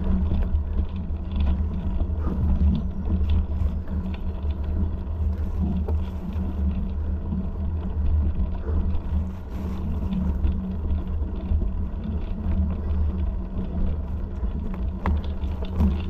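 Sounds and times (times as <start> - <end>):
faint ticks and rattles: 0.0 - 16.0
steady low rumble: 0.0 - 16.0.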